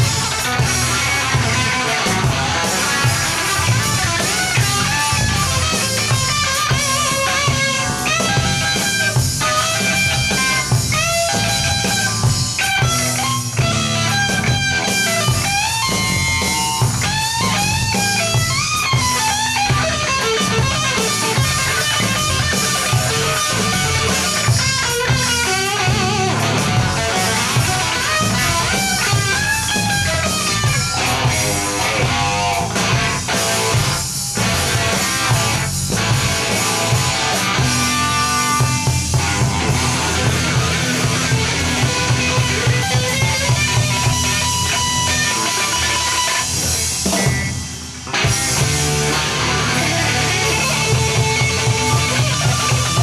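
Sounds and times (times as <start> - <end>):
drum kit: 0.0 - 53.0
lead electric guitar runs: 0.0 - 53.0.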